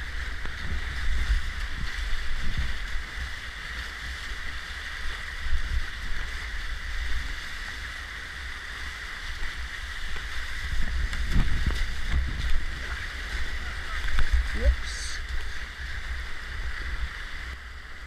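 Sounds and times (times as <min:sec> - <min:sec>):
low rumble on microphone: 0:00.0 - 0:18.0
whitewater rushing: 0:00.0 - 0:18.0.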